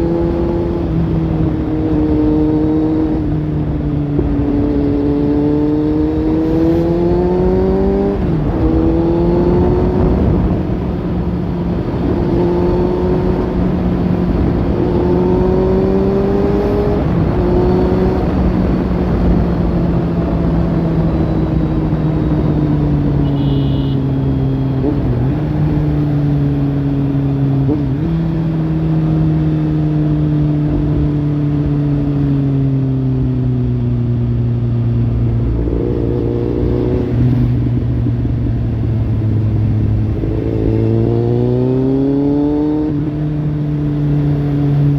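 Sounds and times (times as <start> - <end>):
motorcycle engine revving: 0.0 - 33.5, 35.1 - 44.9.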